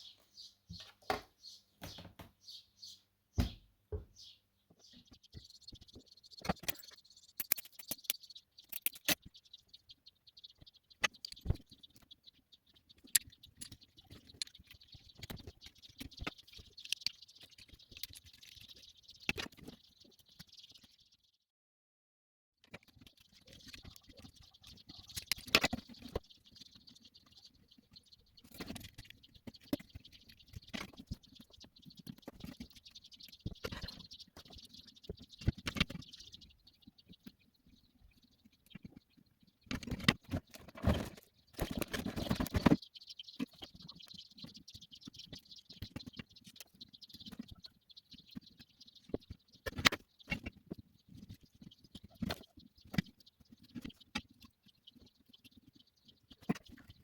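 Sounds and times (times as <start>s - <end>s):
clicks taps and scraping: 0.1s - 2.4s, 3.4s - 20.9s, 22.6s - 57.0s.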